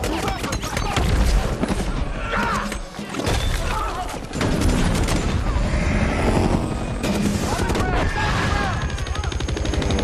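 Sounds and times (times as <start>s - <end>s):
action film score: 0.0s - 10.0s.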